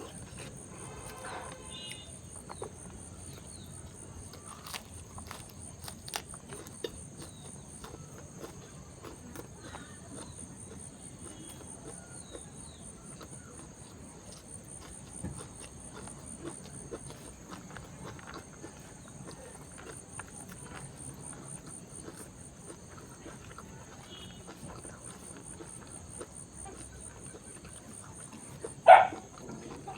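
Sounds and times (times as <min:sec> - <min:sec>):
chewing: 0:00.0 - 0:29.9
crickets chirring: 0:00.0 - 0:29.9.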